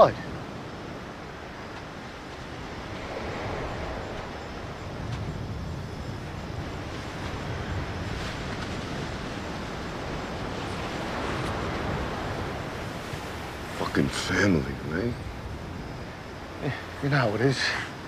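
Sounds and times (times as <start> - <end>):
ocean surf washing: 0.0 - 18.0
wind: 0.0 - 18.0.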